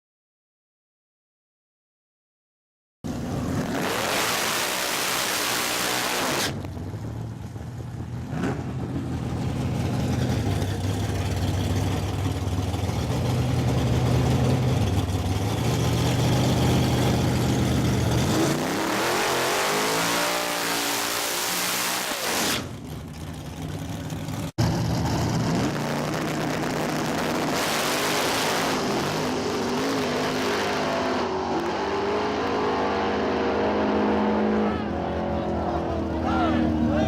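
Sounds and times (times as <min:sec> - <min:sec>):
race car engines idling and revving: 0:03.1 - 0:37.0.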